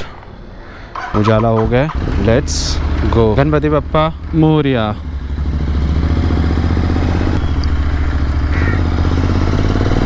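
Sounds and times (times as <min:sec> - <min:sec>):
motorcycle engine running: 0:01.0 - 0:10.0.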